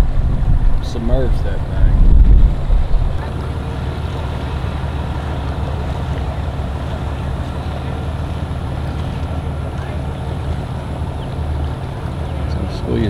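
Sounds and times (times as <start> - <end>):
engines idling: 0.0 - 13.0.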